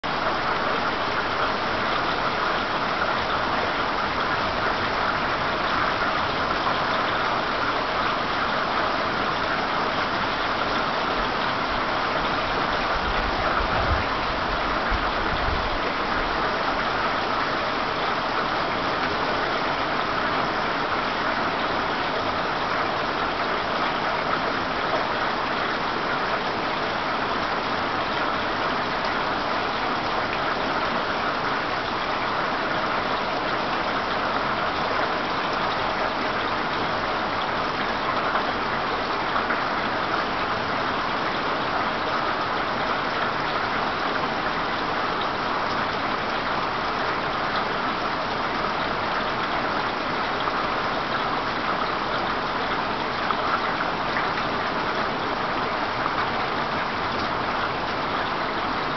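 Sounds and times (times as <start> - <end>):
heavy rain: 0.0 - 58.9
rushing floodwater: 0.0 - 58.9.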